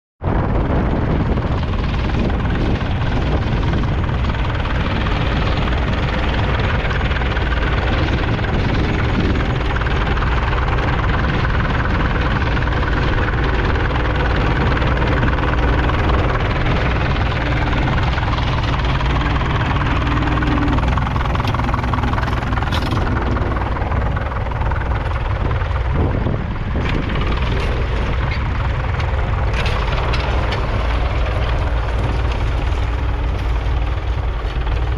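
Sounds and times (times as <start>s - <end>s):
tractor diesel engine running: 0.3s - 34.9s.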